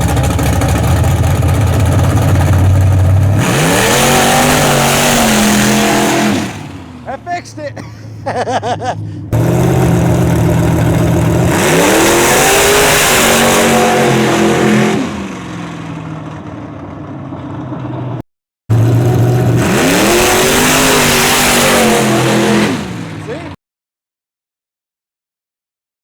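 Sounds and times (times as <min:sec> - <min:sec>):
truck engine revving hard: 0:00.0 - 0:16.1, 0:18.1 - 0:23.6.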